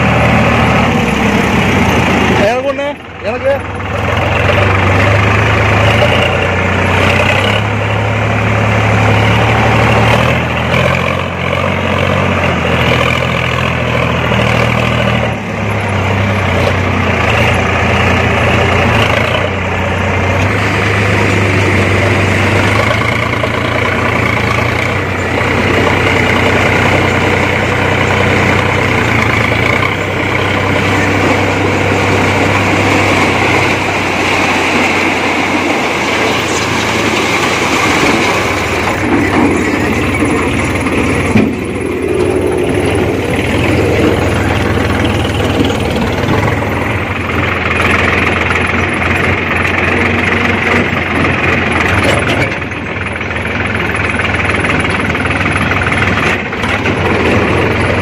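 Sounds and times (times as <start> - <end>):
diesel engine of backhoe loader: 0.0 - 58.0.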